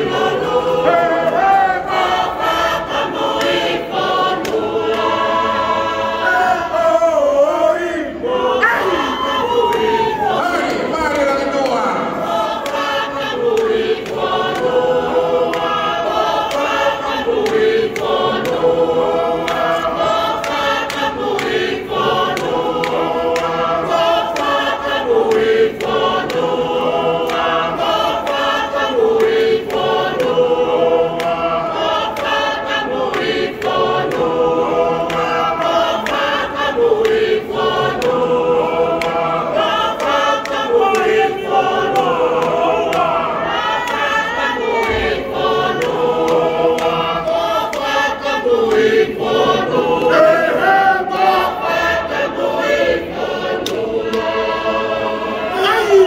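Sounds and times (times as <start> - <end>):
large choir singing: 0.0 - 56.0.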